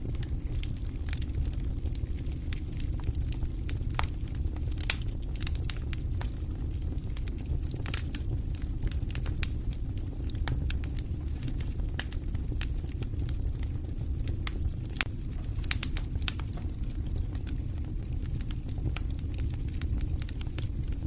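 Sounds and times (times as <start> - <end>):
campfire crackling: 0.0 - 21.0
fire pops and snaps: 0.0 - 21.0.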